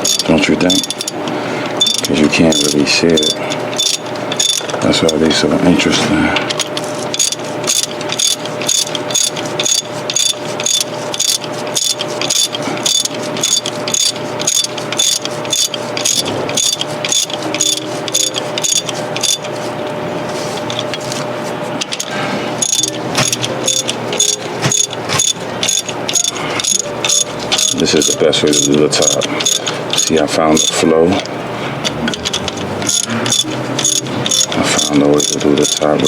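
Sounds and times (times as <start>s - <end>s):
hand ratchet clicking: 0.0s - 5.4s, 6.4s - 19.6s, 20.6s - 21.2s, 21.8s - 36.0s.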